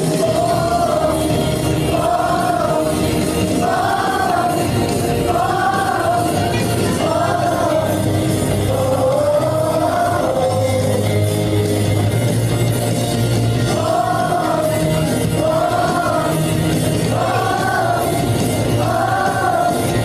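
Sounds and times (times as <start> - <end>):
children singing: 0.0 - 11.2, 13.6 - 20.0
instrumental backing music: 0.0 - 20.0.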